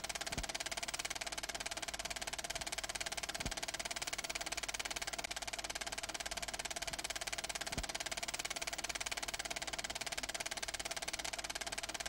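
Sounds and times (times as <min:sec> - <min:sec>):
rapid fluttering whir: 0:00.0 - 0:12.0.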